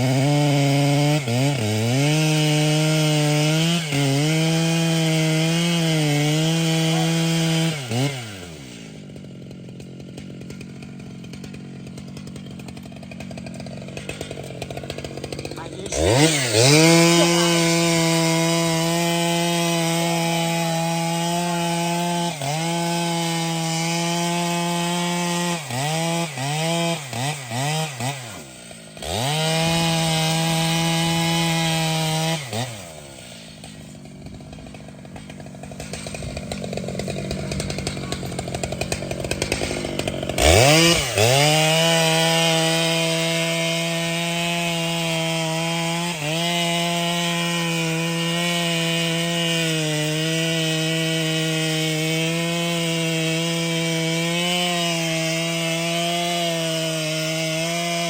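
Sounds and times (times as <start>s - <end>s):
chainsaw running: 0.0s - 58.0s.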